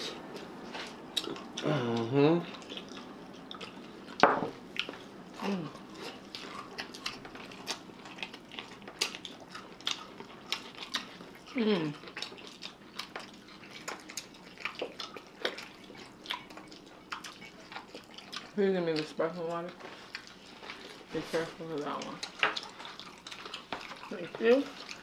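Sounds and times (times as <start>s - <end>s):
people chewing food: 0.0s - 25.0s.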